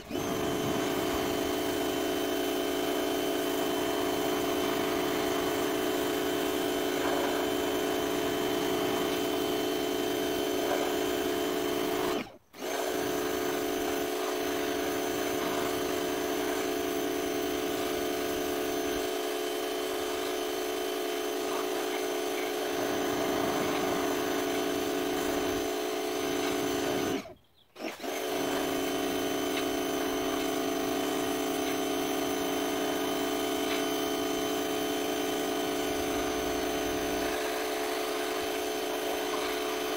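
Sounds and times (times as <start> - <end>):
pressure washer motor humming: 0.0 - 39.9.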